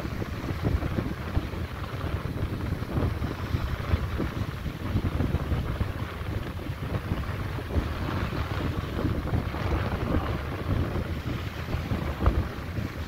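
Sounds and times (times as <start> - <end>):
surf breaking on rocks: 0.0 - 13.0
wind buffeting microphone: 0.0 - 13.0.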